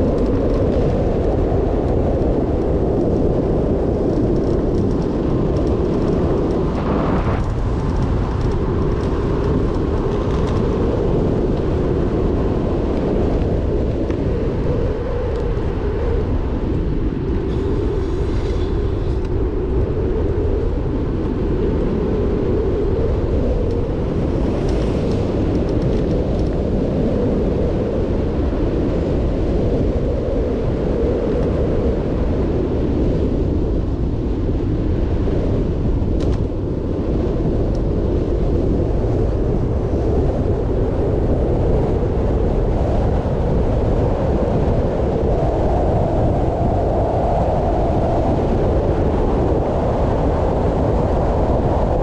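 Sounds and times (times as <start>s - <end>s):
road and tyre noise: 0.0s - 52.0s
wind rumbling on microphone: 0.0s - 52.0s.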